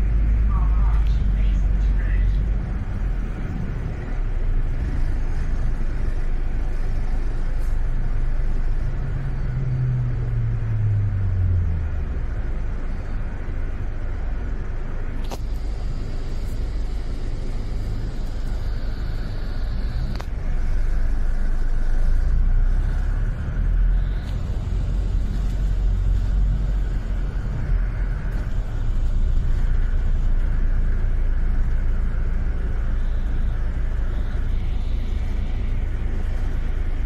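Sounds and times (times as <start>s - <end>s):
bus engine and road rumble: 0.0s - 37.0s
faint high whine: 0.0s - 37.0s.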